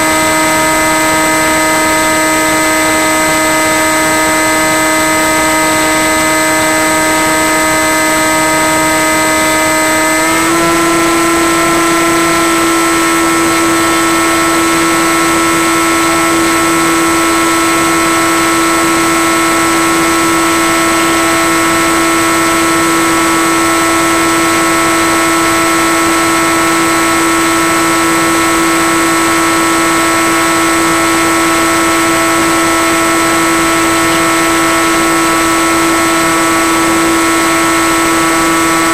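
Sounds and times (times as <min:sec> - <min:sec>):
electric motor and propeller drone: 0:00.0 - 0:38.9
thin high whine: 0:00.0 - 0:38.9.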